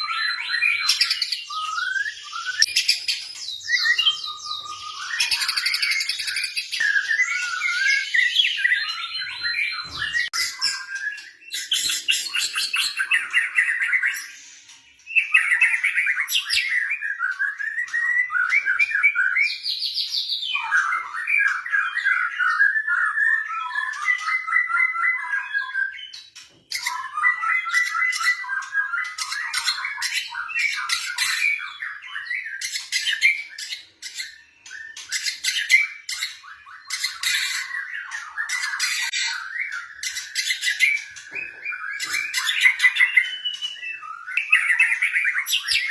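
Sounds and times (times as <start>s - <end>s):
songbird singing trills: 0.0s - 45.9s.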